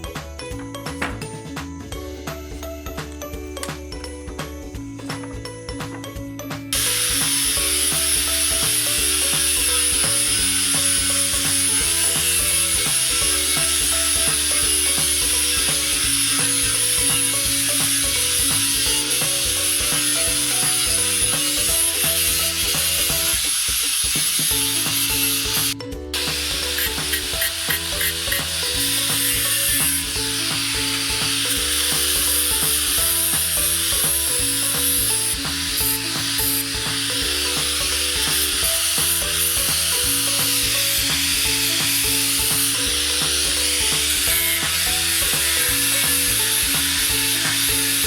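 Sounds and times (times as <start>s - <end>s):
rhythmic background music: 0.0s - 48.0s.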